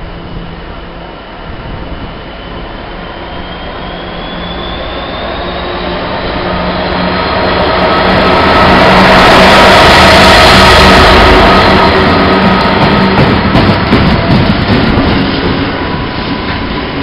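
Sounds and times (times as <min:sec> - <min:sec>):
diesel locomotive engine passing: 0:00.0 - 0:17.0
high whine: 0:00.0 - 0:17.0.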